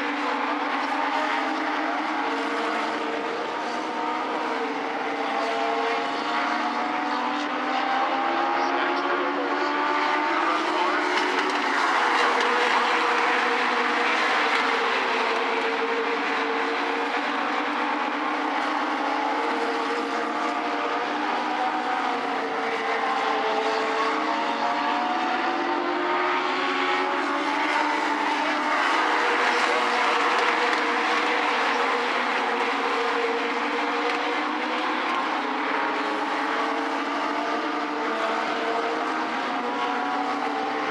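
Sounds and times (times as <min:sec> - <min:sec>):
race car engines: 0:00.0 - 0:40.9.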